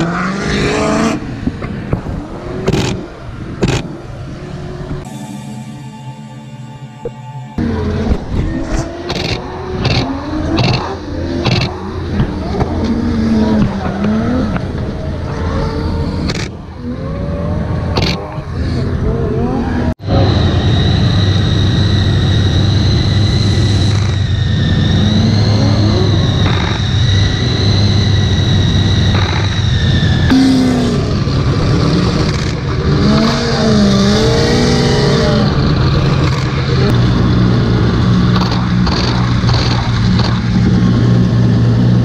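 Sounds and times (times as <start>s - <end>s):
car engines revving: 0.0s - 5.4s, 7.6s - 42.0s
engine drone with high whine: 0.0s - 42.0s.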